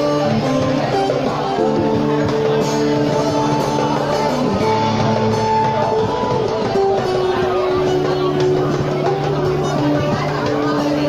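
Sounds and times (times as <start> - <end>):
drums: 0.0 - 11.0
guitar sustained notes: 0.0 - 11.0.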